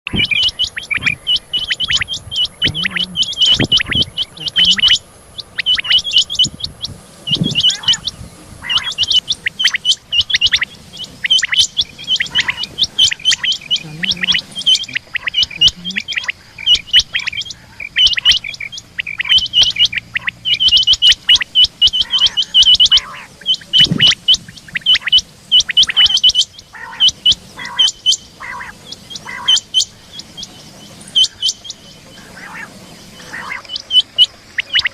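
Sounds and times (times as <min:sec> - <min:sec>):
quail calling: 0:00.1 - 0:34.9.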